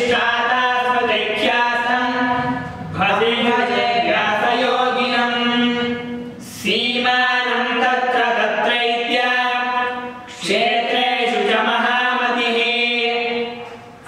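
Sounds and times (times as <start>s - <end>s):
men chanting a hymn: 0.0s - 13.8s.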